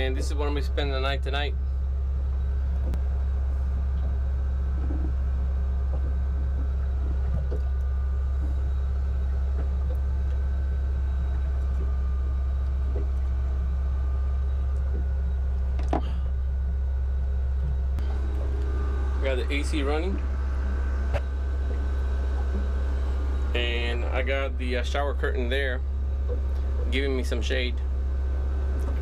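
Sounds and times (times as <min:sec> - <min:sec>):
low mechanical drone: 0:00.0 - 0:29.0.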